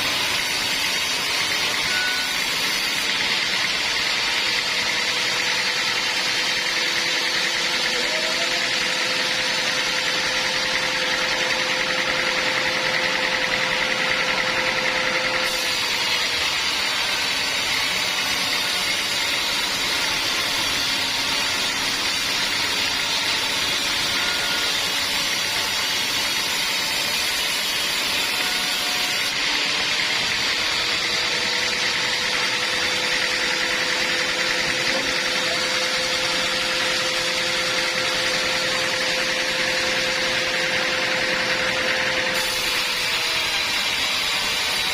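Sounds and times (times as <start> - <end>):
sawmill machinery humming: 0.0 - 44.9.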